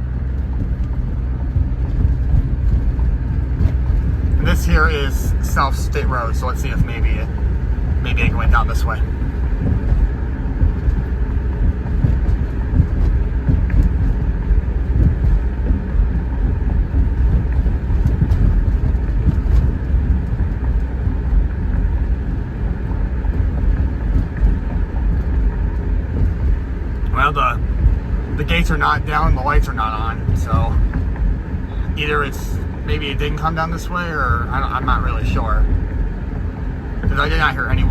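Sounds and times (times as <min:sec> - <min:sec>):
car road and engine noise: 0:00.0 - 0:37.9.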